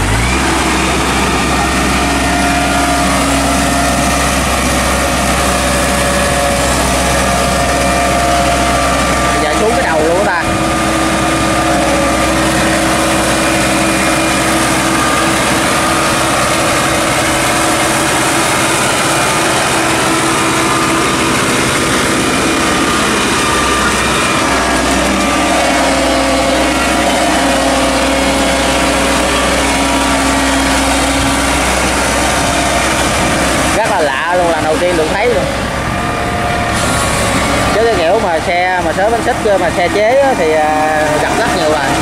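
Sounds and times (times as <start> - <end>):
diesel tractor engine under load: 0.0 - 42.0.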